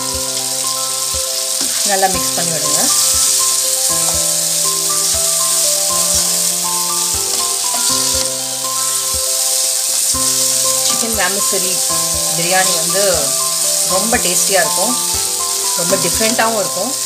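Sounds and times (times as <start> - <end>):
chicken sizzling in hot oil: 0.0 - 17.0
instrumental background music: 0.0 - 17.0.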